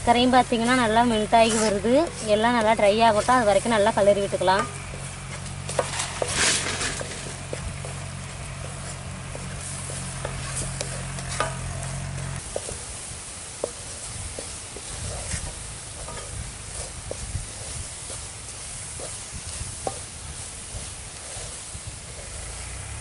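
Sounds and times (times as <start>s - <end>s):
soft sizzle: 0.0s - 23.0s
metal spatula scraping iron pan: 0.5s - 12.9s, 13.6s - 22.4s.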